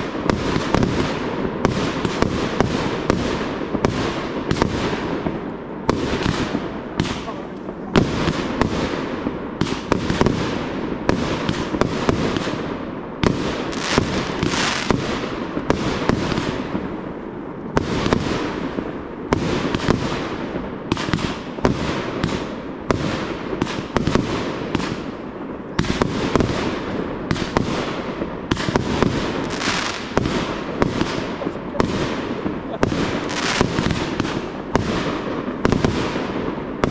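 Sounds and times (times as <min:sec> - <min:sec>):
fireworks bursting: 0:00.0 - 0:36.9.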